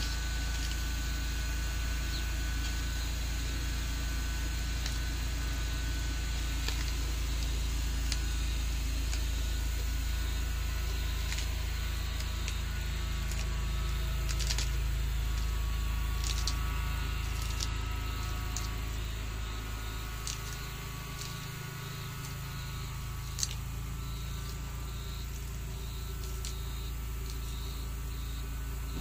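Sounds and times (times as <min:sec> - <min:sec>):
low rumble: 0:00.0 - 0:29.0
tortoise crunching food: 0:00.0 - 0:29.0.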